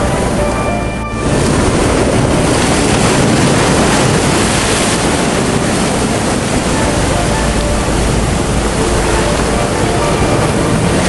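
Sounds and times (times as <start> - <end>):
floodwater rushing down street: 0.0 - 11.0.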